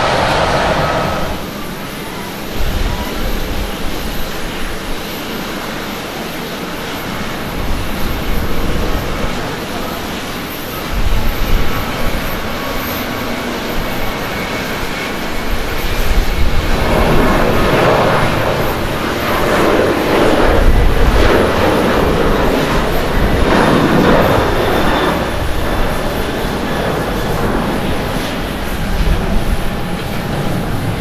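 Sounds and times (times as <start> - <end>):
jet engine roar at takeoff: 0.0 - 31.0.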